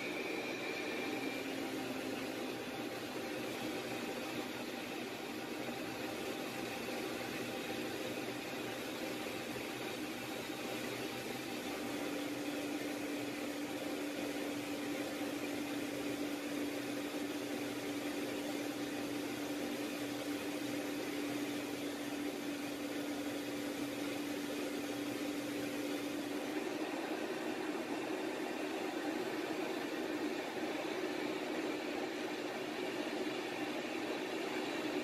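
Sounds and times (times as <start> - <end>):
aircraft cabin engine drone: 0.0 - 35.0.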